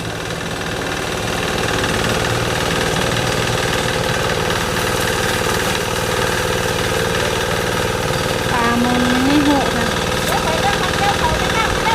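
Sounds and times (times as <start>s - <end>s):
water pump engine chugging: 0.0s - 11.9s.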